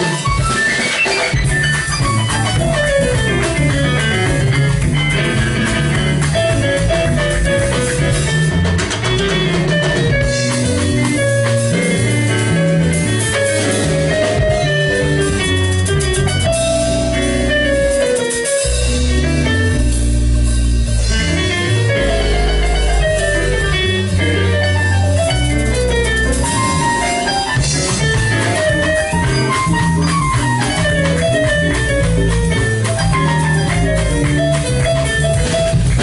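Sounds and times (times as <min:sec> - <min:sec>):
bass line: 0:00.0 - 0:36.0
drum kit: 0:00.0 - 0:36.0
electric guitar: 0:00.0 - 0:36.0
keyboard: 0:00.0 - 0:36.0.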